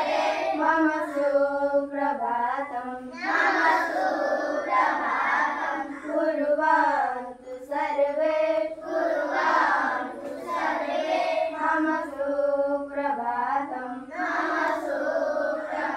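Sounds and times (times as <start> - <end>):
children singing in unison: 0.0 - 15.9.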